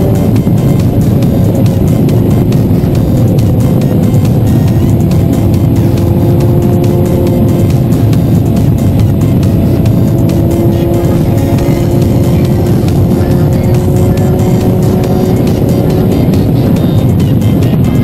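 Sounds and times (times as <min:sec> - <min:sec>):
motorcycle engine running: 0:00.0 - 0:18.0
wind rumble: 0:00.0 - 0:18.0.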